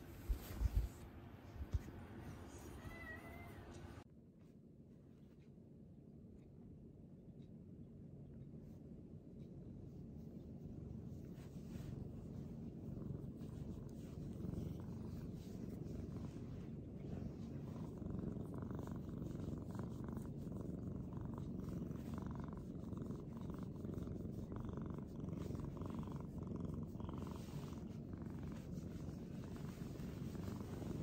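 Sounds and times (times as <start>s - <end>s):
cat purring: 0.0s - 4.0s, 8.4s - 31.0s.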